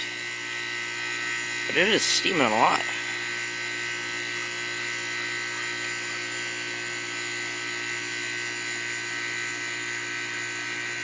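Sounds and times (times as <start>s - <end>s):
air conditioner compressor humming: 0.0s - 11.0s.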